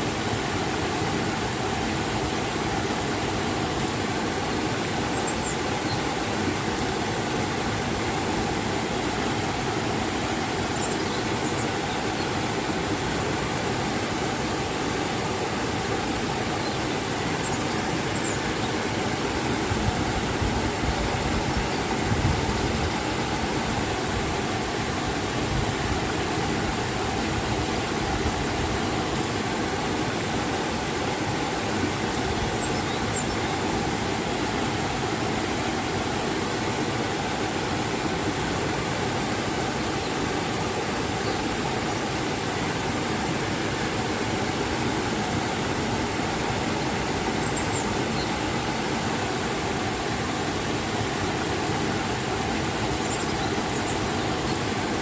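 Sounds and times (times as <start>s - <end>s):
river and waterfall rushing: 0.0s - 55.0s.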